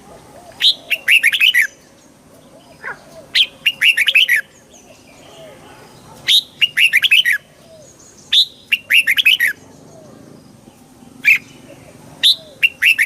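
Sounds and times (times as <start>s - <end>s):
bulbul singing: 0.0s - 13.0s.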